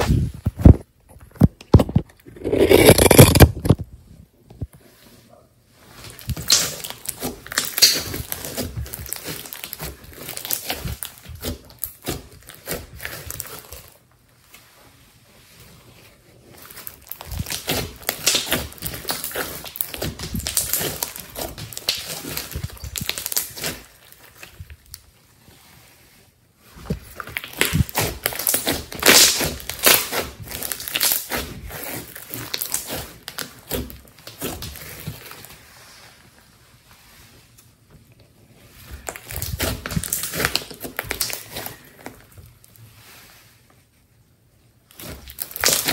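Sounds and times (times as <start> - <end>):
slime squishing by hand: 0.0 - 3.9, 5.8 - 45.9.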